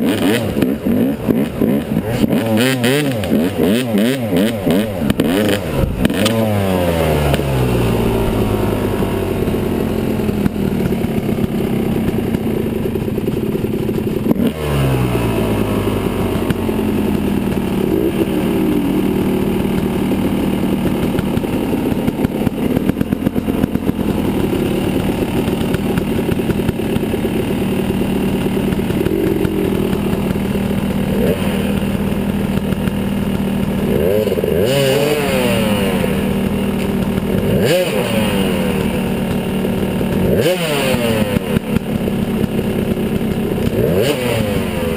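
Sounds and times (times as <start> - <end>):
bike rattling over ground: 0.0 - 44.9
dirt bike engine running: 0.0 - 44.9.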